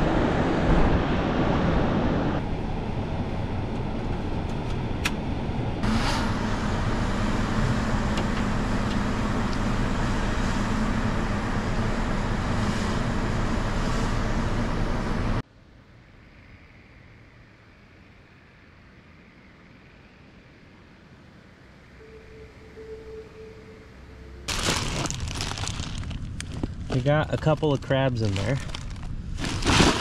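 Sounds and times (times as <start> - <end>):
drone propellers humming: 0.0 - 15.4, 16.0 - 27.0.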